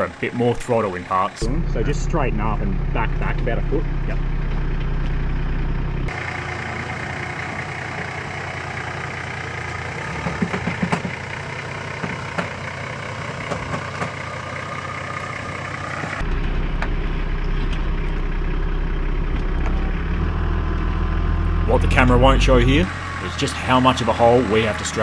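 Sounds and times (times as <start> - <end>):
engine running slowly: 0.0 - 25.0.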